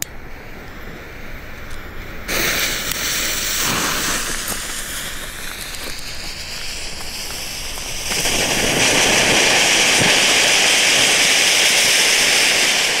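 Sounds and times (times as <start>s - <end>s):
firework fountains hissing: 0.0s - 13.0s.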